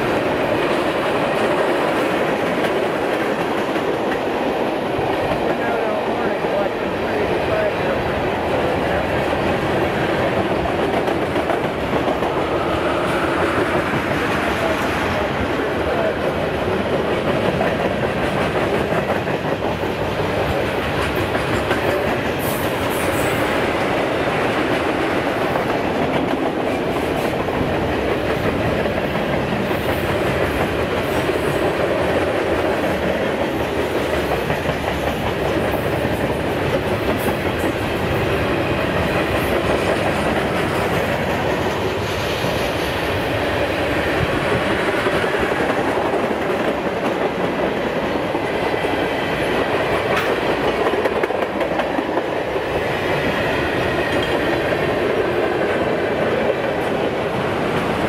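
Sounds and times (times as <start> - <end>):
freight train rolling rumble: 0.0 - 58.0.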